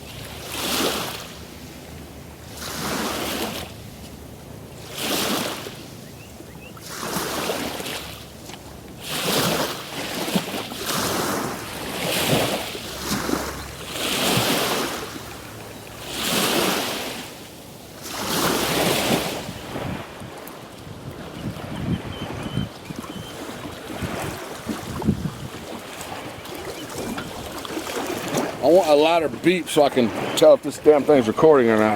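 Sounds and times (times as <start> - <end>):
small waves lapping: 0.0 - 31.9.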